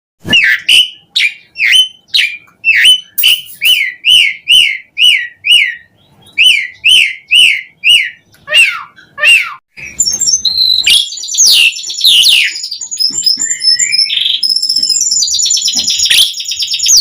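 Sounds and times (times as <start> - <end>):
starling singing whistled notes: 0.2 - 17.0.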